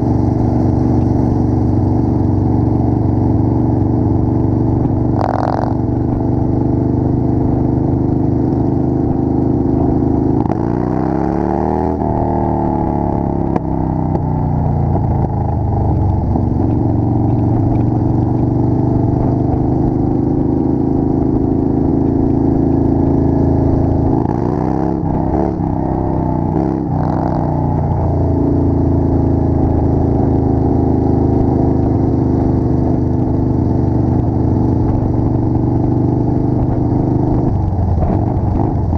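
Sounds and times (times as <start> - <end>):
motorcycle engines cruising: 0.0 - 38.9
road and wind noise: 0.0 - 38.9.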